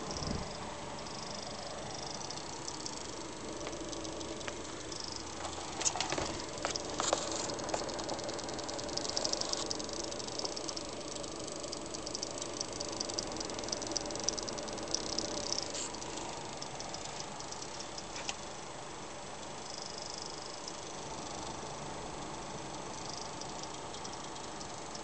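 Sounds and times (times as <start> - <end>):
power supply ticking rattle: 0.0 - 21.6, 22.8 - 25.0
steady hiss: 0.0 - 25.0.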